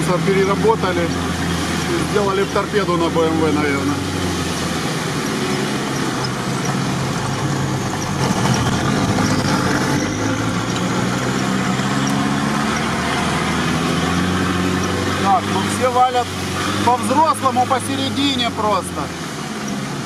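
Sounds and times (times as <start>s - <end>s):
off-road vehicle engine running: 0.0s - 20.0s
wet tyres on mud: 0.0s - 20.0s.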